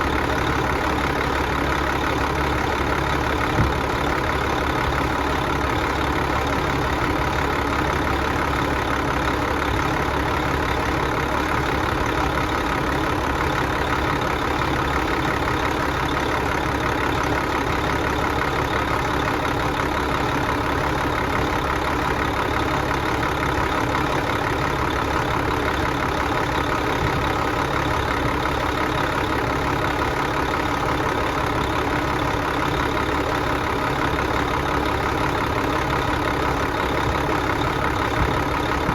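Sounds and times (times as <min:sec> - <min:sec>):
vehicle engine running steadily: 0:00.0 - 0:38.9.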